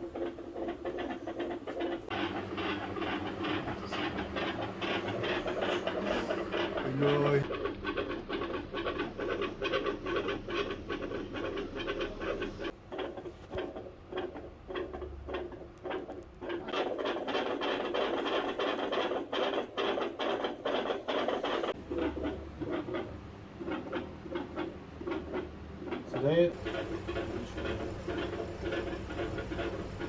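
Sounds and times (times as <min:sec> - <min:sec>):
rapid irregular crackles: 0:00.0 - 0:30.0
stethoscope scratchy rubbing: 0:00.0 - 0:30.0.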